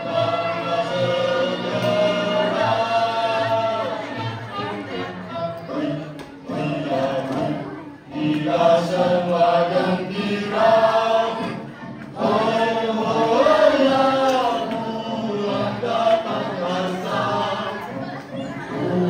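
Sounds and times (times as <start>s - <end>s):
children chanting in chorus: 0.0s - 19.0s.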